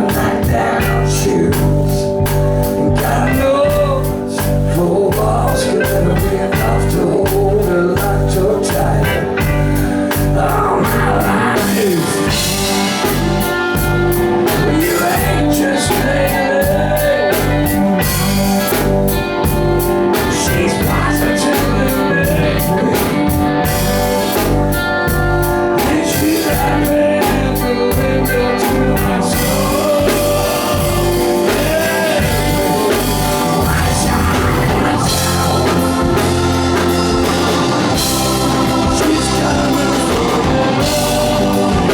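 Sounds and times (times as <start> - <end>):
drum kit beat: 0.0 - 41.9
electric guitar: 0.0 - 41.9
person singing: 0.0 - 41.9.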